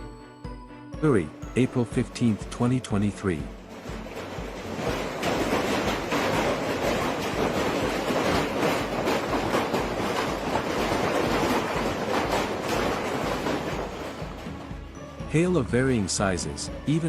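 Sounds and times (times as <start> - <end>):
hailstones clattering: 1.1 - 17.0.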